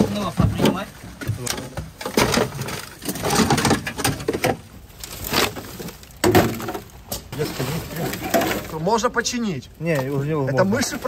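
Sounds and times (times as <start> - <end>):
metal and wood debris clattering: 0.0 - 11.0.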